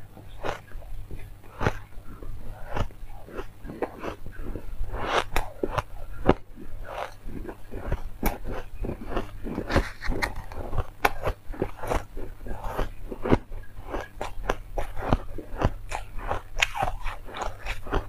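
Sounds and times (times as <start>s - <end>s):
ice being chewed: 0.0s - 18.0s.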